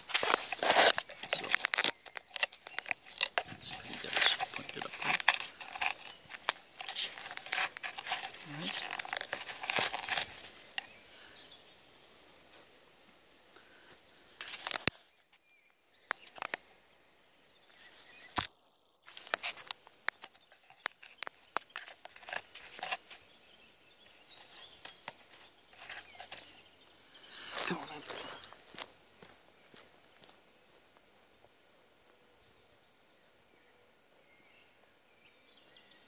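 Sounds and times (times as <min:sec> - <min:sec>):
faint outdoor background: 0:00.0 - 0:36.0.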